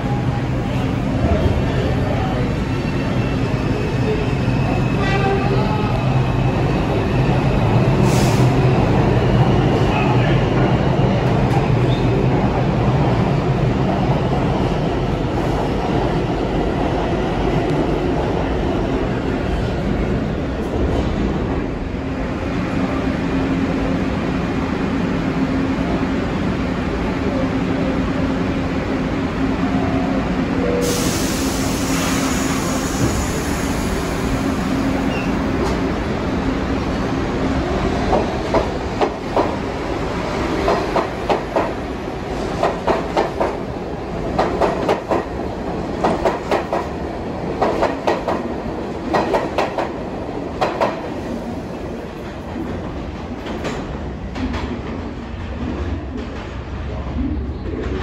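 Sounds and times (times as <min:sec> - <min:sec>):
subway train rumbling: 0:00.0 - 0:58.0.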